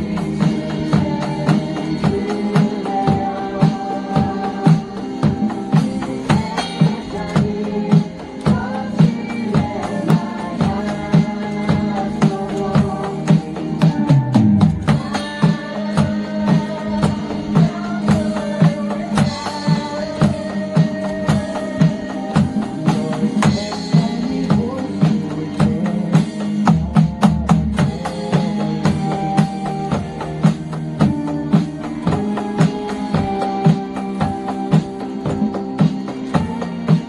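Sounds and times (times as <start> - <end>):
drum kit playing: 0.0 - 37.0
recorded pop-rock song: 0.0 - 37.0.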